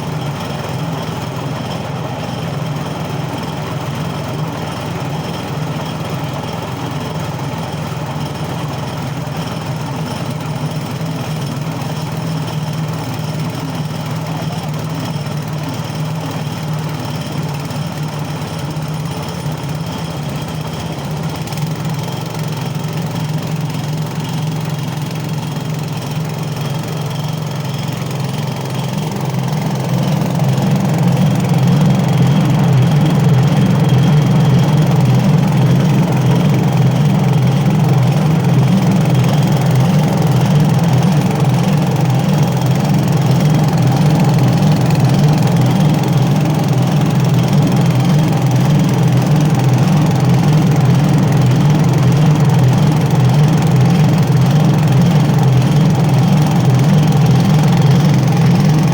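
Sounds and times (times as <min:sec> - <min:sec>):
small petrol engine running: 0:00.0 - 0:58.9.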